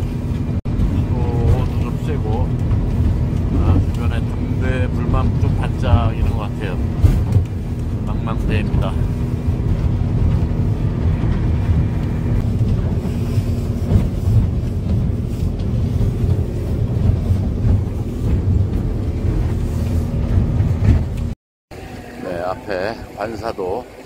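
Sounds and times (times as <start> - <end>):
motorboat engine running: 0.0 - 24.0
water rushing along hull: 0.0 - 24.0.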